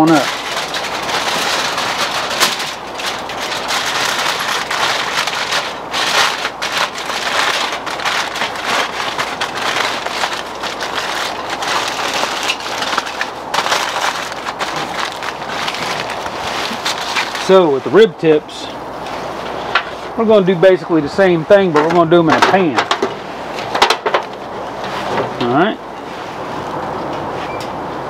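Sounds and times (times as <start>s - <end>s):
aluminium foil crinkling: 0.0s - 25.6s.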